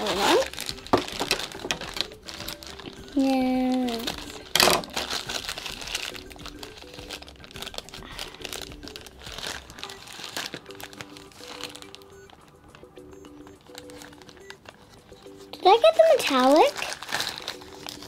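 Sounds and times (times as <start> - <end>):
packaging crinkling: 0.0 - 18.0
quiet background music: 0.0 - 18.0.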